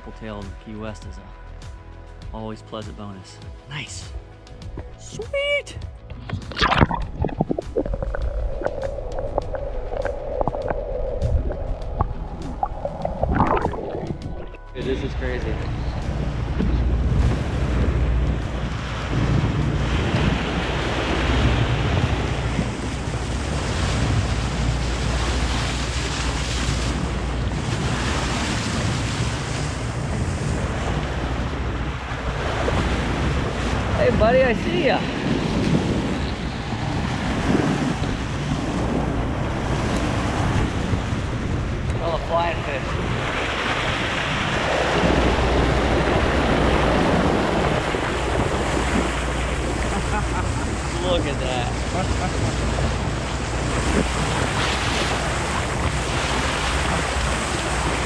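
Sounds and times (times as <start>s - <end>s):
moving water: 4.6s - 58.0s
wind buffeting microphone: 4.6s - 58.0s.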